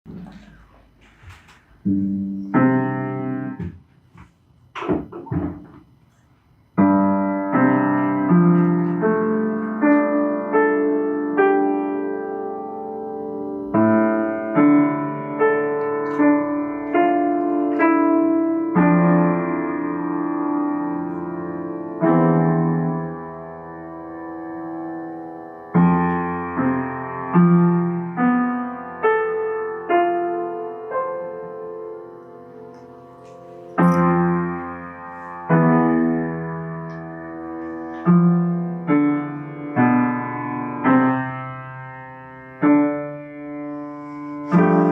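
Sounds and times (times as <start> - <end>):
piano chords and notes: 0.1 - 6.0, 6.6 - 44.9.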